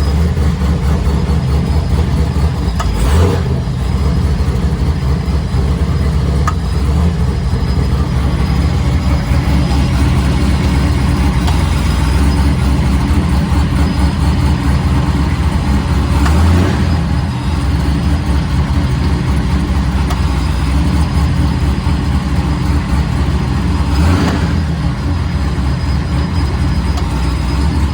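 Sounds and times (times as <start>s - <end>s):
car engine rumbling: 0.0s - 27.9s.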